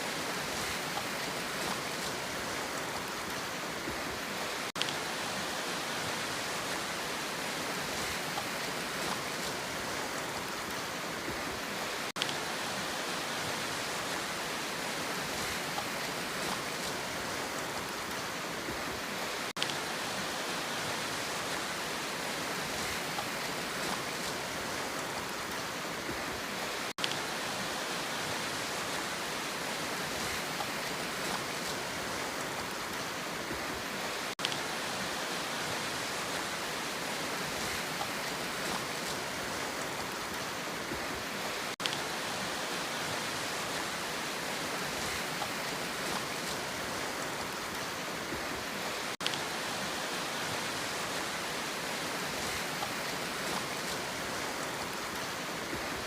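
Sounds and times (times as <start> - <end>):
sea water rushing: 0.0 - 56.0.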